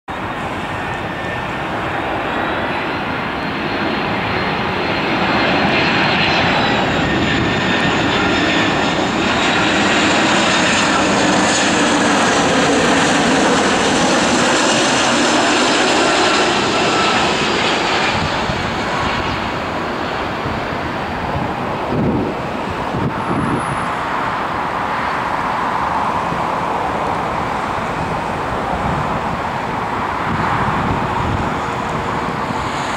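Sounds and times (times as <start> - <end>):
jet airliner landing: 0.1 - 32.9.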